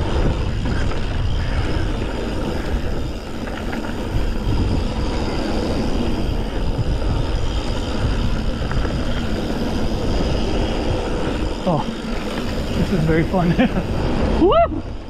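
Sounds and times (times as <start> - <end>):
bike tyre rumble on dirt: 0.0 - 15.0
wind rushing over microphone: 0.0 - 15.0.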